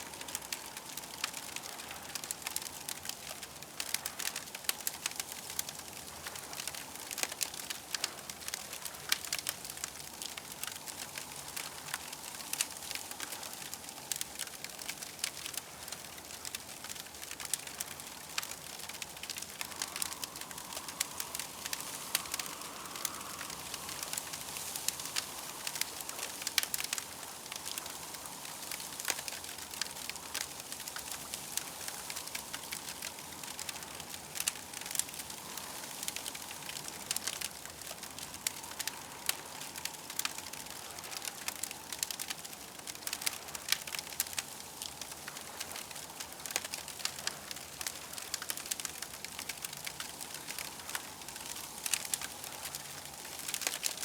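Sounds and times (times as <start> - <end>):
campfire crackling: 0.0 - 54.0
steady hiss: 0.0 - 54.0.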